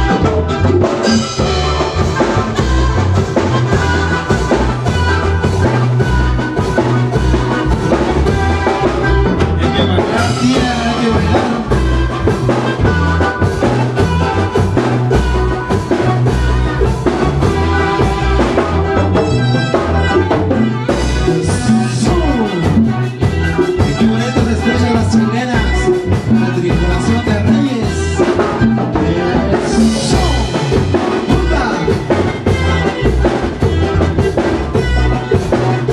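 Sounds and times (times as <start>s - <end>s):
band playing dance tune: 0.0s - 35.9s
drum kit beat: 0.0s - 35.9s.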